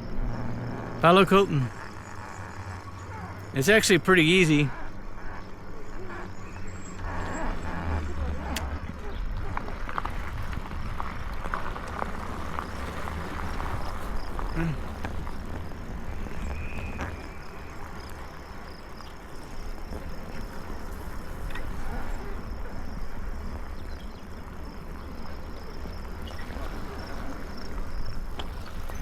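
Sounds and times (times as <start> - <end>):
wind rumbling on microphone: 0.0 - 1.0, 4.7 - 29.0
high insect drone: 0.0 - 29.0.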